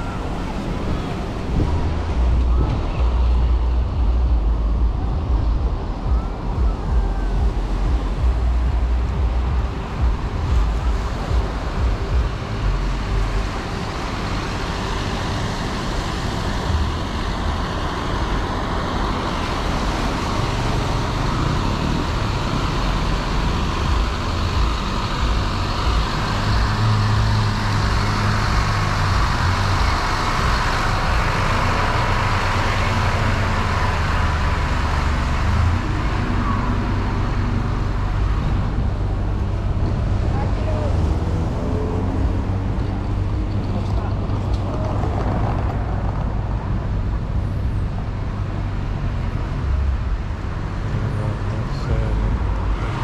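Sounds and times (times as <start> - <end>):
heavy vehicles passing: 0.0 - 53.0
road traffic: 0.0 - 53.0.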